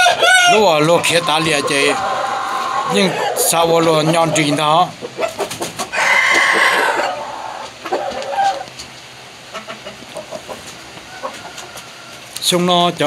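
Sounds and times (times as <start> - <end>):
rooster calling: 0.0 - 8.7, 9.6 - 12.4.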